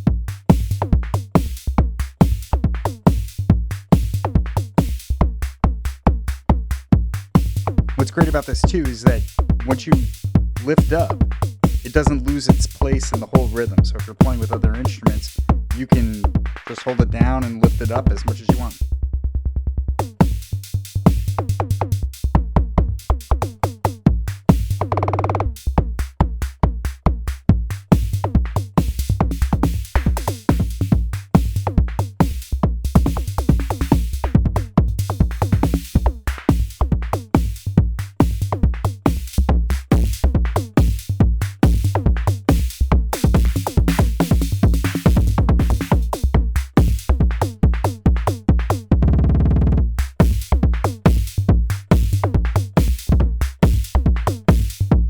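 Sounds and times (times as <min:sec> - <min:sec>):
drum machine beat: 0:00.0 - 0:18.9, 0:20.0 - 0:55.0
fast repeated drum hits: 0:00.0 - 0:18.9, 0:20.0 - 0:55.0.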